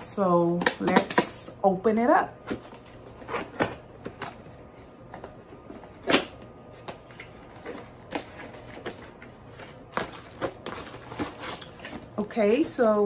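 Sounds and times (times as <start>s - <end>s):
packaging clicks and rustles: 2.5s - 13.0s.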